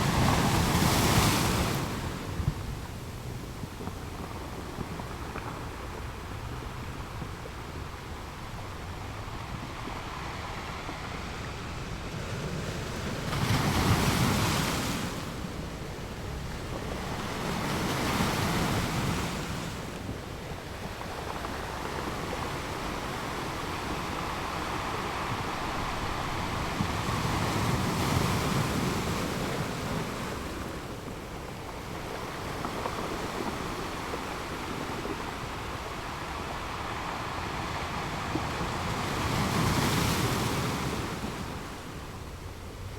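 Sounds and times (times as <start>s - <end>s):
ocean waves breaking on shore: 0.0s - 3.0s, 8.2s - 42.9s
wind: 0.0s - 42.9s.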